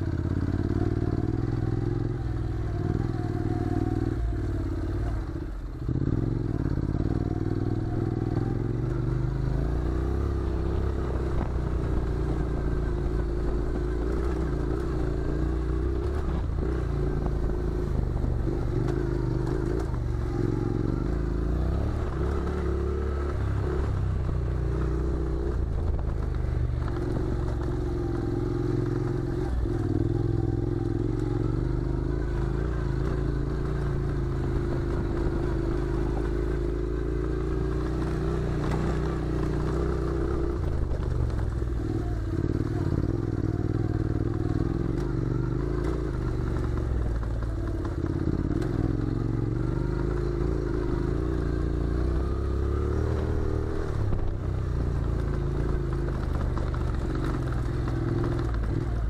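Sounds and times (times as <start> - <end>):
motorcycle engine at low revs: 0.0 - 59.0.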